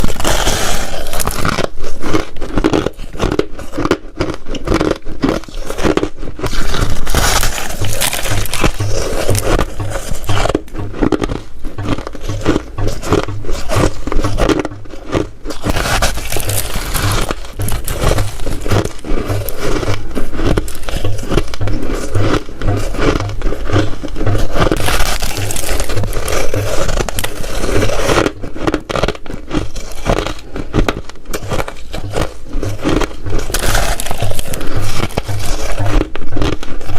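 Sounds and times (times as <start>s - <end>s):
ice being chewed: 0.0s - 36.9s.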